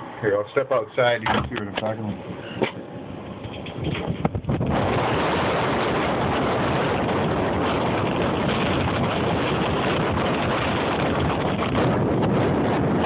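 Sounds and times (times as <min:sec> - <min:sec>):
blizzard wind buffeting microphone: 0:02.2 - 0:13.0.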